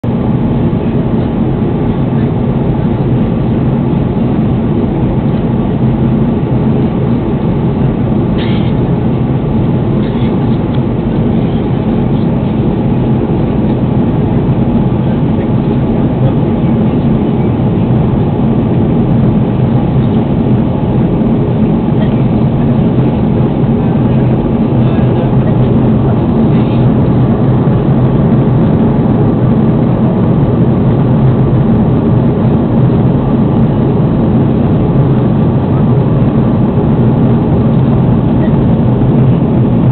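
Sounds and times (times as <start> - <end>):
aircraft cabin engine roar: 0.0 - 39.9.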